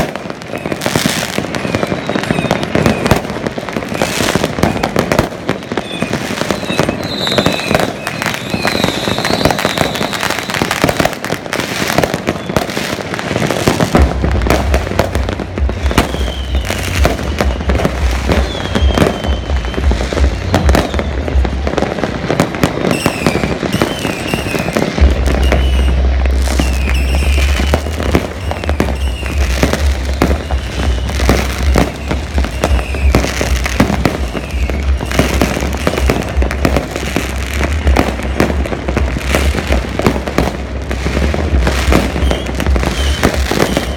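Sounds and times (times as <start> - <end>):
fireworks bangs pops and crackles: 0.0 - 43.9.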